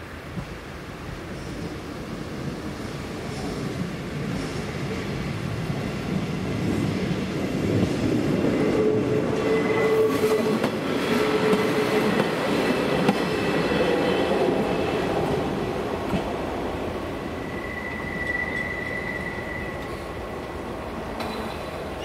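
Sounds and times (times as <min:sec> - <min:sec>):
railcar wheels clattering over rails: 0:01.2 - 0:22.0.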